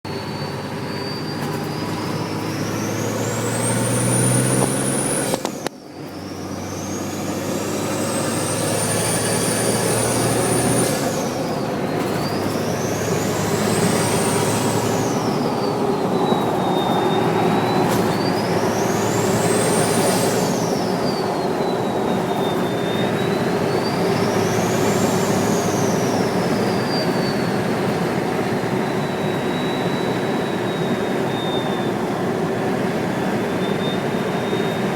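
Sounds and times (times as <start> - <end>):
diesel engine revving: 0.1 - 34.9
turbo whistle: 0.1 - 34.9.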